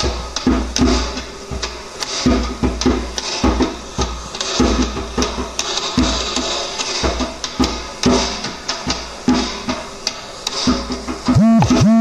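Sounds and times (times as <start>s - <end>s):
hand drum bass strokes and slaps: 0.0s - 12.0s.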